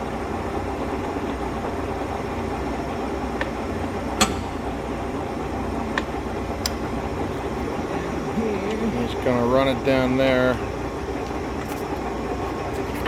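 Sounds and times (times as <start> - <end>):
lathe mechanical hum: 0.0 - 13.0.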